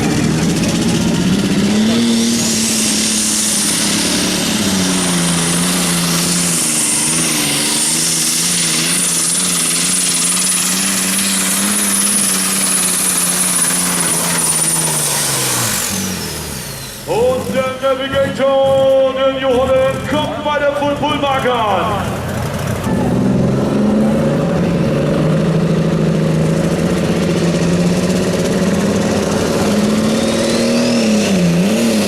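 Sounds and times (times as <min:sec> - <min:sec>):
diesel engine running flat out: 0:00.0 - 0:32.0.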